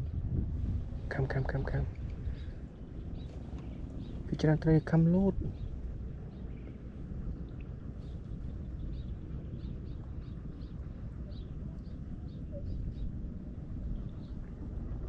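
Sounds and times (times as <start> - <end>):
low rumble: 0.0 - 15.0
birds chirping: 0.7 - 14.6.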